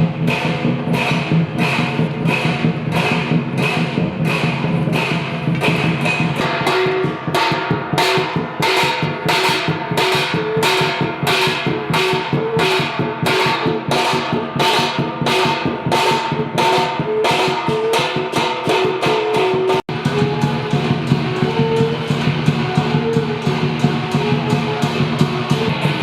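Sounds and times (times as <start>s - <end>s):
cymbals crashing: 0.0s - 26.0s
drum beating: 0.0s - 26.0s.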